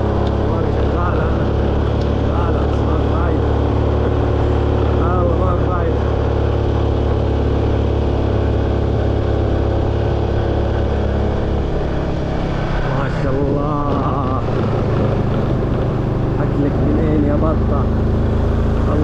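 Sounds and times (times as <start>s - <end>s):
engine and road hum: 0.0s - 19.0s.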